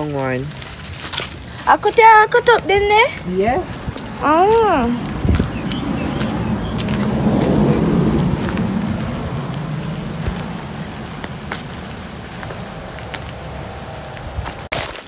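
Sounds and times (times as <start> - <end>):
wind rumbling on microphone: 0.0 - 14.7
footsteps on gravel: 0.0 - 15.0.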